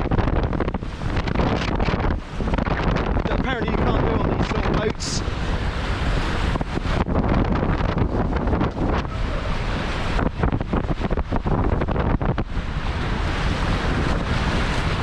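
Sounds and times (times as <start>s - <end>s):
rushing water and spray: 0.0s - 15.0s
wind buffeting microphone: 0.0s - 15.0s.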